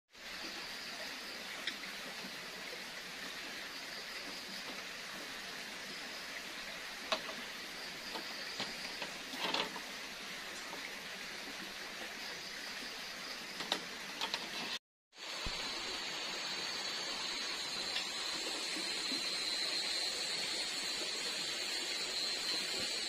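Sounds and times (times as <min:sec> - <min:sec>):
steady forest hiss: 0:00.1 - 0:23.0.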